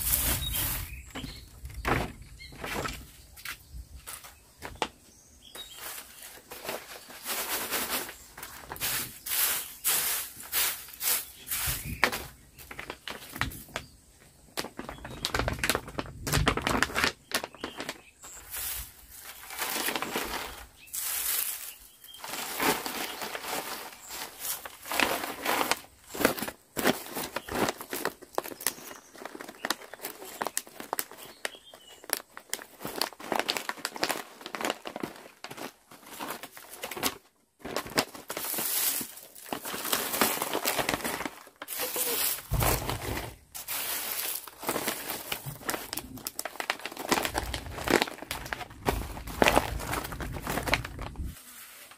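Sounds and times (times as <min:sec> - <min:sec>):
dried tea leaves rustling: 0:00.0 - 0:01.4, 0:05.5 - 0:13.8, 0:16.5 - 0:36.9, 0:37.6 - 0:51.9
plastic and foil pouches crinkling: 0:00.0 - 0:03.0, 0:05.5 - 0:51.9.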